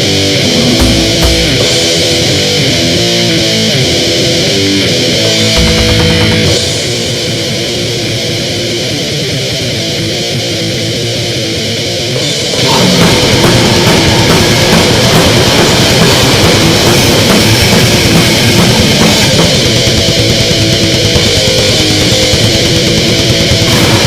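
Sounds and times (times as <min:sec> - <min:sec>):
distorted electric guitar riff: 0:00.0 - 0:24.0
grindcore band playing: 0:00.0 - 0:24.0.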